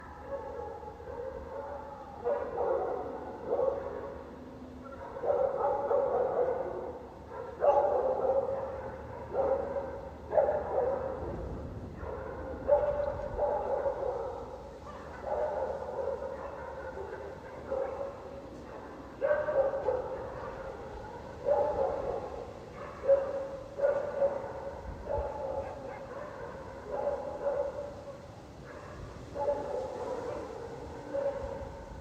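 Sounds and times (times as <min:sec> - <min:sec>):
dogs barking: 0:00.0 - 0:32.0.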